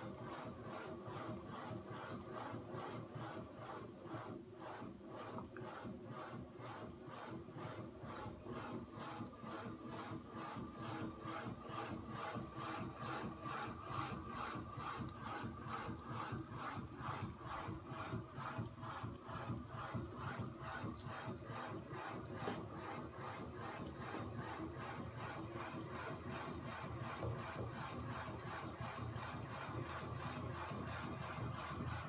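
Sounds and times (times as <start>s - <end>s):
faint steady motor whine: 0.0s - 32.0s
rhythmic rubbing knock: 0.0s - 32.0s.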